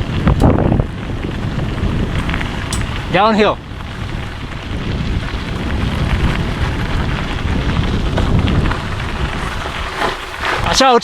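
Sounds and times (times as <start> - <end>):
tyres rattling over dirt: 0.0 - 11.0
wind buffeting microphone: 0.0 - 11.0.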